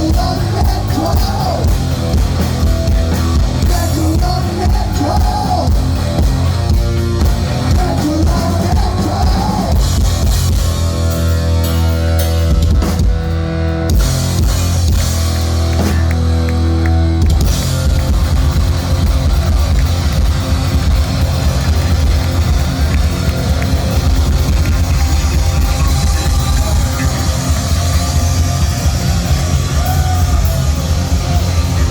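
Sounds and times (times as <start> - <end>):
bass guitar: 0.0 - 31.9
distorted electric guitar: 0.0 - 31.9
fast driving drums: 0.0 - 31.9.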